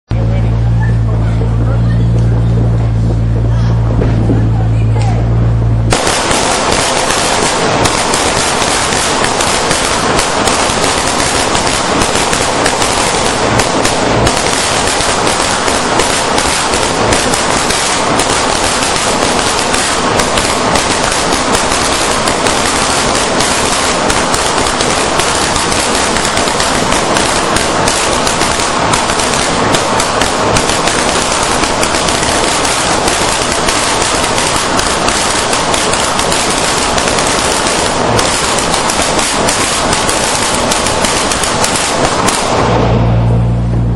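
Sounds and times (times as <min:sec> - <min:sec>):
firecrackers exploding: 0:00.0 - 0:43.9.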